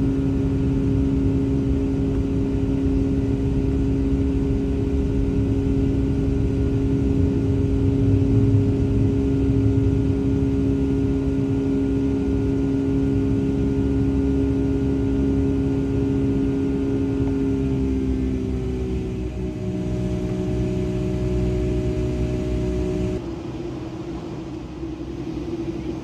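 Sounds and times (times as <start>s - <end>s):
jet engines heard from cabin: 0.0s - 26.0s.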